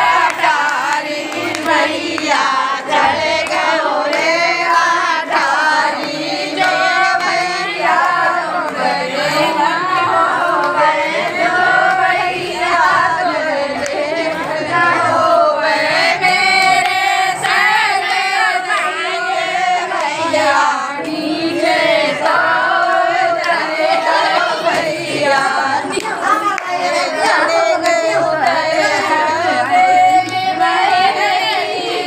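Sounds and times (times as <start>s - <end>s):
women singing folk song in chorus: 0.0s - 32.0s.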